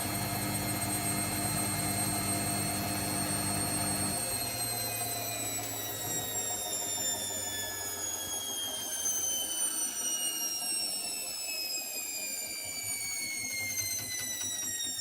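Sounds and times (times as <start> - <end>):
washing machine motor whining: 0.0 - 15.0.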